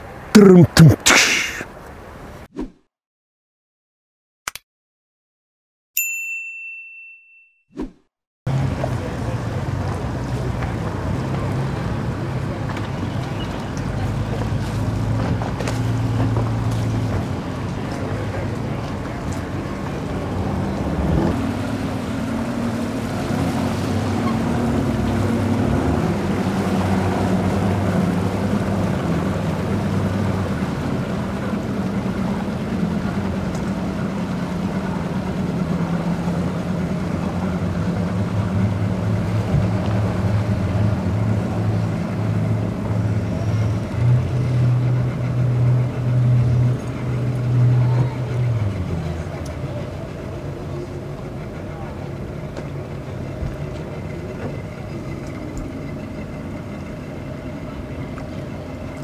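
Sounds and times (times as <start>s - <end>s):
motorboat engine humming: 8.5s - 59.0s.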